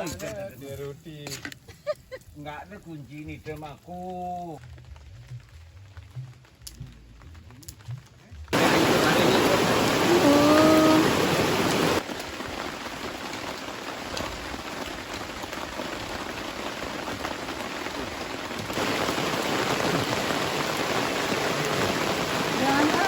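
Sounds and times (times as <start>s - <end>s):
heavy rain falling: 4.0s - 23.0s.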